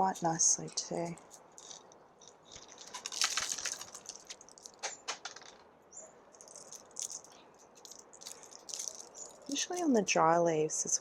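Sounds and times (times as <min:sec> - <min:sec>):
plant leaves rustling and crackling: 0:00.0 - 0:05.6, 0:06.3 - 0:11.0.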